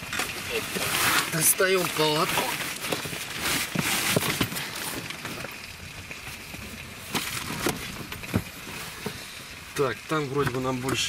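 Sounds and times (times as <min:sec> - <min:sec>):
camping gear rustling: 0:00.0 - 0:10.8.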